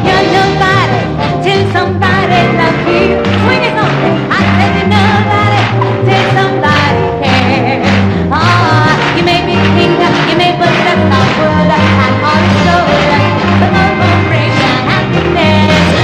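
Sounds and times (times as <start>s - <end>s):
bass line: 0.0s - 16.0s
live band music: 0.0s - 16.0s.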